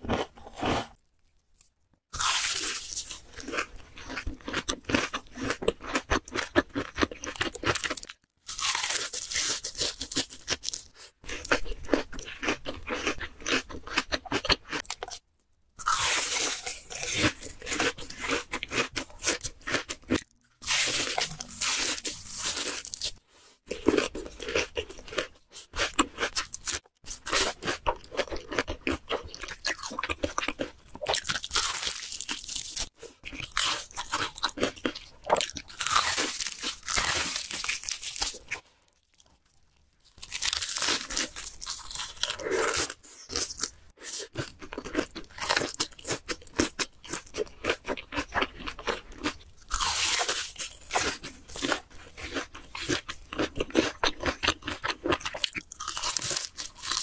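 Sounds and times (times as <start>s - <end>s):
crunching fried food: 0.0s - 57.0s.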